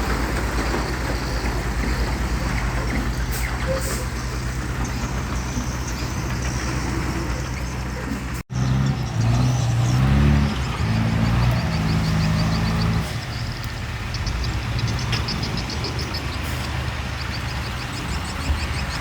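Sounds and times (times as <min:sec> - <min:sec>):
diesel engine throbbing: 0:00.0 - 0:19.0.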